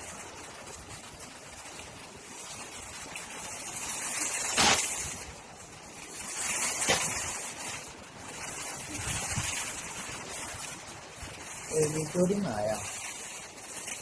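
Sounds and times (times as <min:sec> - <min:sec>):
storm wind gusting: 0:00.0 - 0:13.8
heavy rain: 0:00.0 - 0:14.0.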